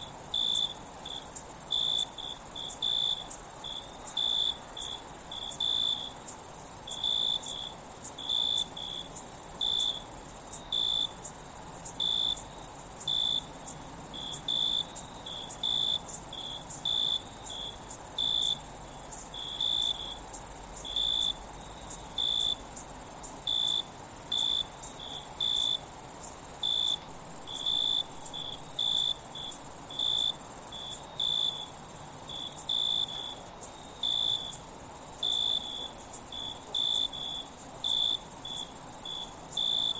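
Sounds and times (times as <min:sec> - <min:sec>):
crickets chirping: 0:00.0 - 0:39.9
insects trilling: 0:00.0 - 0:39.9.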